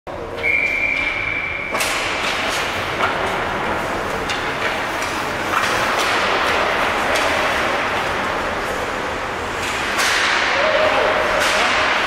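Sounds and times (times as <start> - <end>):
hockey sticks clacking: 0.5 - 12.0.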